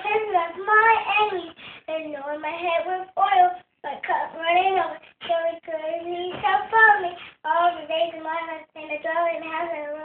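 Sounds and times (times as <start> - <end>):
girl singing: 0.0 - 10.0.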